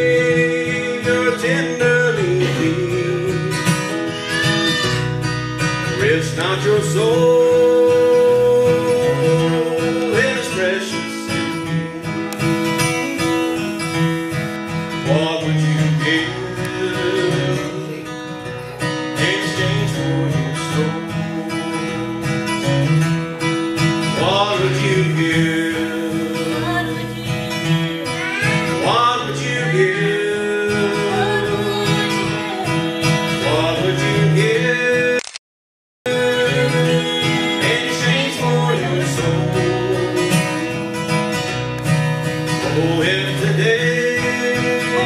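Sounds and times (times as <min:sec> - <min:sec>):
man and woman singing: 0:00.0 - 0:04.8, 0:05.9 - 0:14.4, 0:15.0 - 0:18.2, 0:18.8 - 0:22.4, 0:24.0 - 0:35.2, 0:36.1 - 0:41.0, 0:42.6 - 0:45.0
acoustic guitar strumming: 0:00.0 - 0:35.2, 0:36.1 - 0:45.0.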